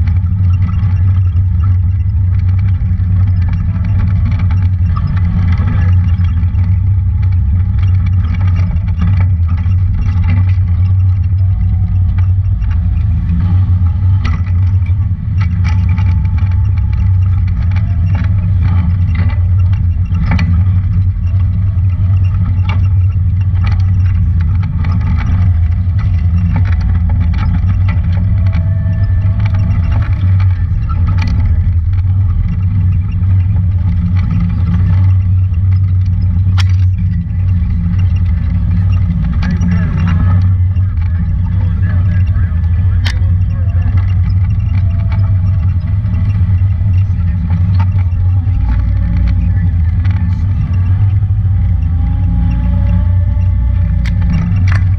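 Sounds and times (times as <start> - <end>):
knocks and rattles: 0.0 - 54.9
vehicle engine droning: 0.0 - 54.9.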